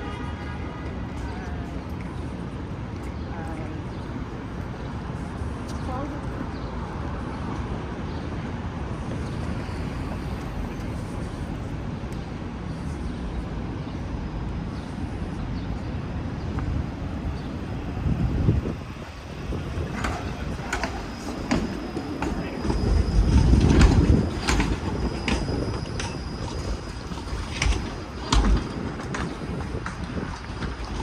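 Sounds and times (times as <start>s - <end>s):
city traffic rumble: 0.0s - 31.0s.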